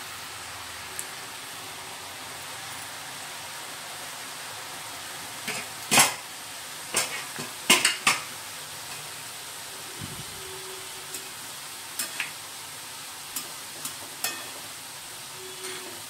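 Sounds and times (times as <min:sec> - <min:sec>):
deep-frying sizzle in oil: 0:00.0 - 0:16.0.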